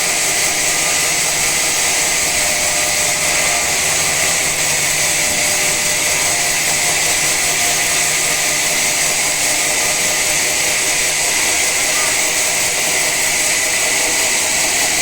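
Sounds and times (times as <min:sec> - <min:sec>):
saw cutting log: 0:00.0 - 0:15.0.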